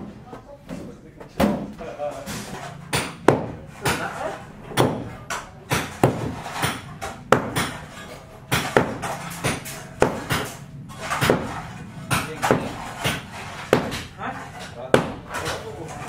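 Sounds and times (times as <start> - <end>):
hand tools knocking: 2.6 - 16.0.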